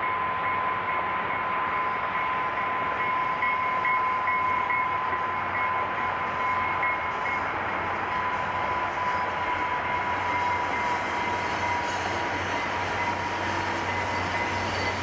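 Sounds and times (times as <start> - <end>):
constant high tone: 0.0 - 15.0
distant train passing: 0.0 - 15.0.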